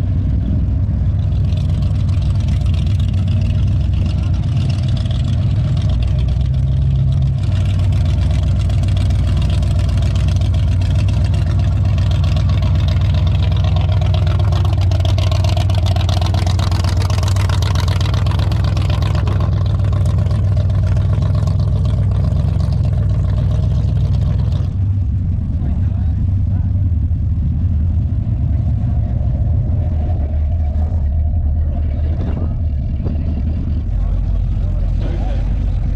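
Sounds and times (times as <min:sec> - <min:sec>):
car engine deep rumble: 0:00.0 - 0:35.9.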